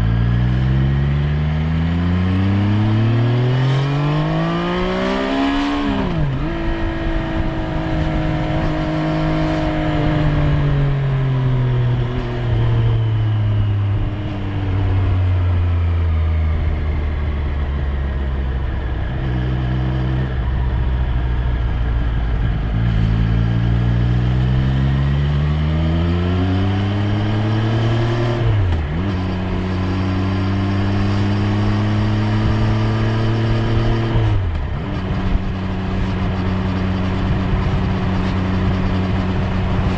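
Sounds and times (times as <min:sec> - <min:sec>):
motorcycle engine revving: 0:00.0 - 0:16.1, 0:17.6 - 0:39.9.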